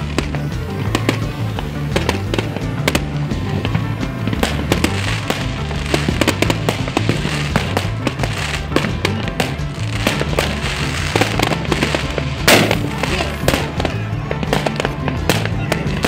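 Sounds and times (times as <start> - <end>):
fireworks bursting: 0.0 - 16.0
music with steady bass line: 0.0 - 16.0.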